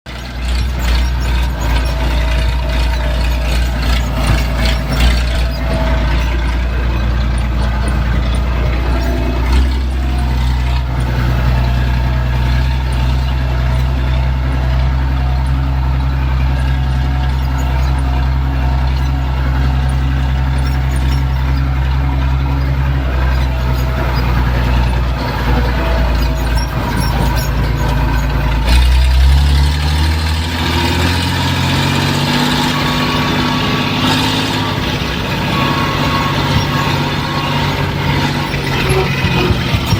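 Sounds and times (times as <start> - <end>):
heavy engine running: 0.0 - 39.9
clattering: 0.1 - 39.9.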